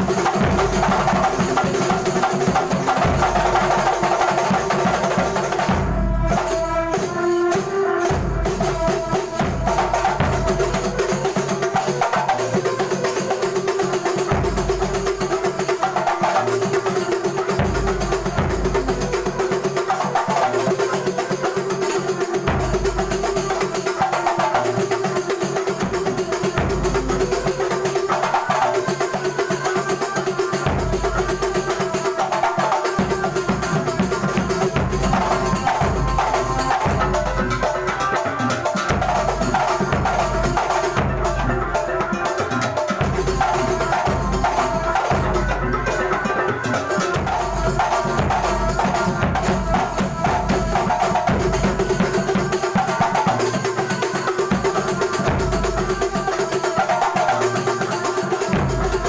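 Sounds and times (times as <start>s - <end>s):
fast frame drum rhythm: 0.0s - 59.0s.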